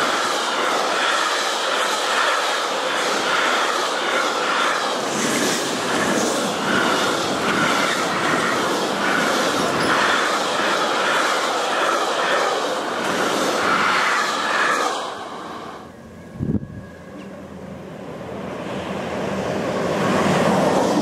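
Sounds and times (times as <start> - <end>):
freight train passing: 0.0 - 21.0.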